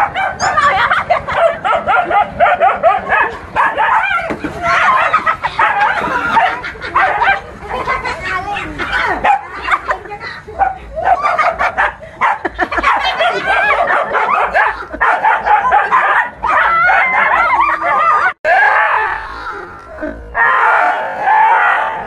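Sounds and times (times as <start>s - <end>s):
dogs barking: 0.0s - 8.0s, 8.8s - 10.0s, 10.6s - 19.2s, 20.4s - 22.0s.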